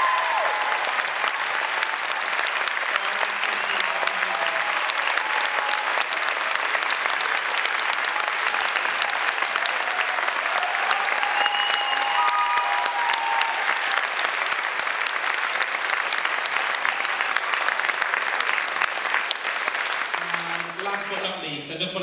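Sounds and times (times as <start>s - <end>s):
crowd applauding: 0.0s - 22.0s.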